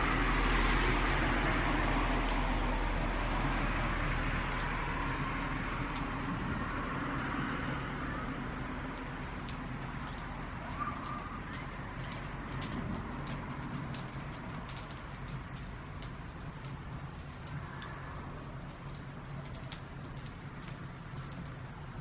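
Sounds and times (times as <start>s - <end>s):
campfire crackling and popping: 0.0s - 22.0s
steady rushing noise of fire: 0.0s - 22.0s.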